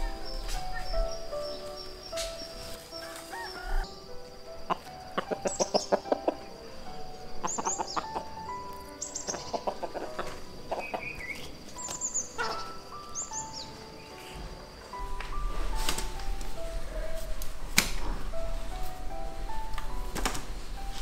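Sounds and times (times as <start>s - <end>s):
small birds chirping: 0.0s - 17.4s
chickens clucking: 0.0s - 17.5s
soft background music: 0.0s - 21.0s.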